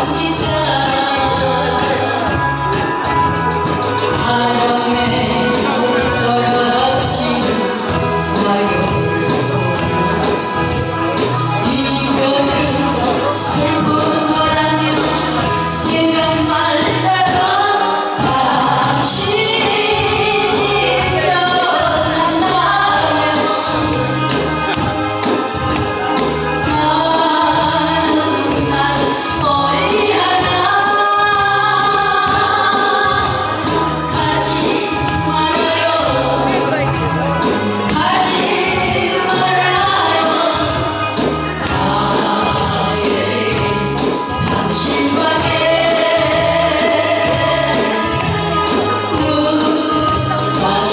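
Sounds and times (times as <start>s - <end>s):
backing track with steady beat: 0.0s - 50.9s
woman singing pop song: 0.0s - 50.9s.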